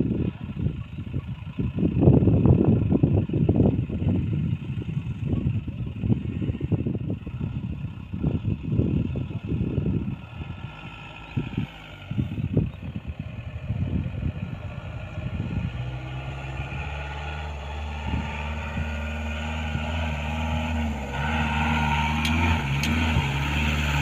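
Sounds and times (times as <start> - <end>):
diesel engine idling: 0.0 - 24.0
low rumbling gusts: 0.0 - 24.0.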